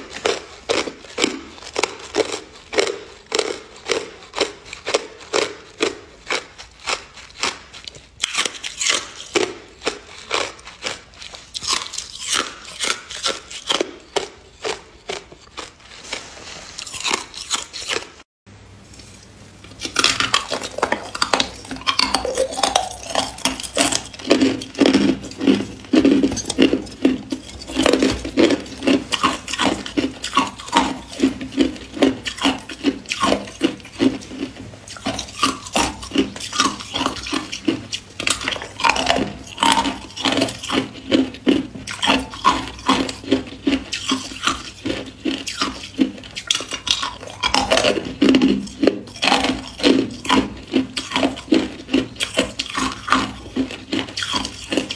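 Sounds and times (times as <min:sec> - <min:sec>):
ice cubes crunching between teeth: 0:00.0 - 0:18.2, 0:19.7 - 0:54.9.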